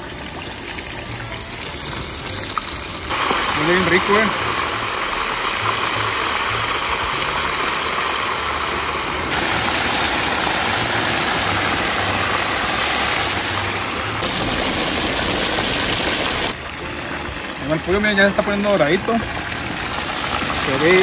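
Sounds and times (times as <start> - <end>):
oil sizzling: 0.0 - 21.0.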